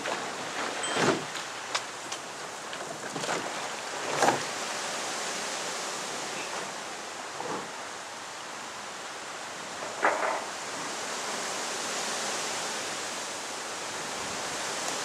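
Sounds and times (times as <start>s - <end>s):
gusty wind through reeds: 0.0s - 15.0s.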